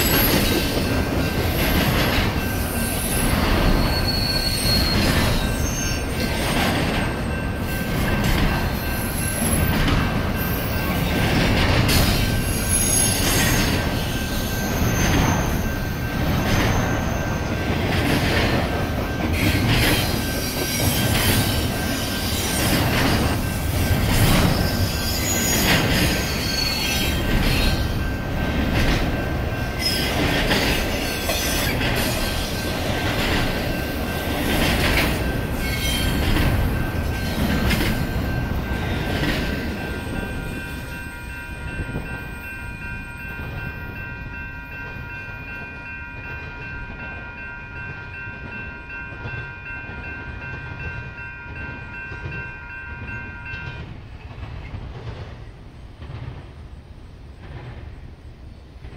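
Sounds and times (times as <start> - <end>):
rail clacks: 0.0 - 58.9
train wheels rumbling on rail: 0.0 - 58.9.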